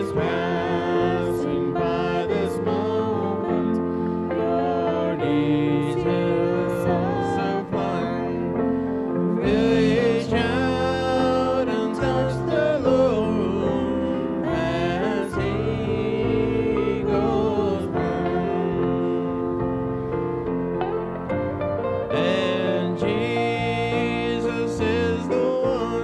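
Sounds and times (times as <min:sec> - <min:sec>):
gospel singing: 0:00.0 - 0:26.0
instrumental accompaniment: 0:00.0 - 0:26.0.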